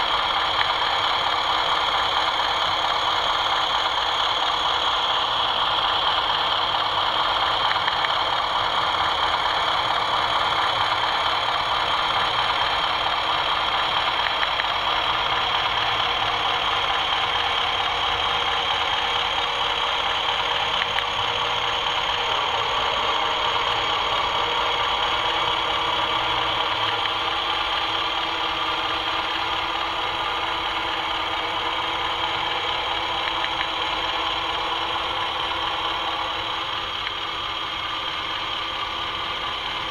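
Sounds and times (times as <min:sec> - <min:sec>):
model diesel engine sound: 0:00.0 - 0:39.9.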